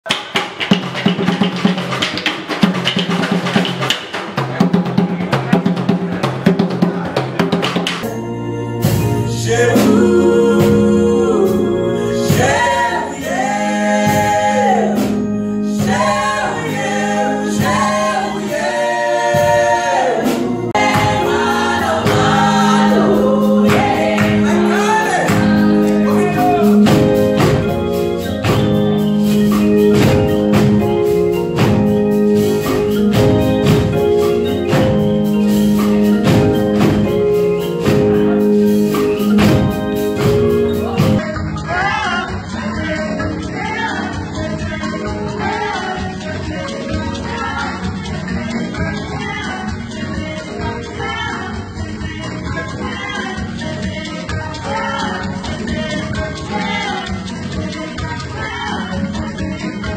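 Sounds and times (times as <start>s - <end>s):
hand drum beat: 0.0s - 8.1s, 19.0s - 59.9s
people singing in harmony: 9.1s - 31.9s, 32.6s - 59.9s.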